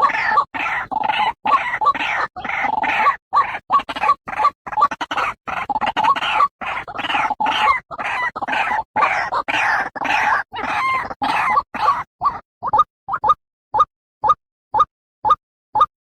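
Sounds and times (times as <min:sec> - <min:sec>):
waterhen croaking calls: 0:00.0 - 0:13.9.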